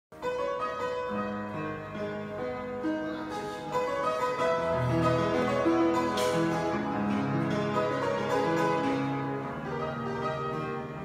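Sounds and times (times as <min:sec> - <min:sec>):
grand piano chords: 0:00.1 - 0:11.0.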